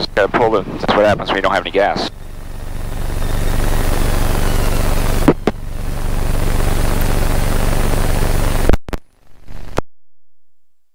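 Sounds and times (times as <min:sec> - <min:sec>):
cockpit hiss and hum: 0:00.0 - 0:09.8.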